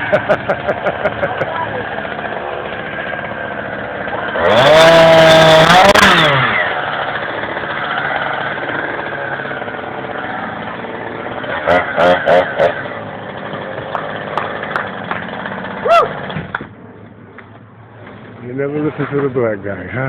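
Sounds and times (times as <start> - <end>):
chainsaw idling and revving: 0.0 - 16.7.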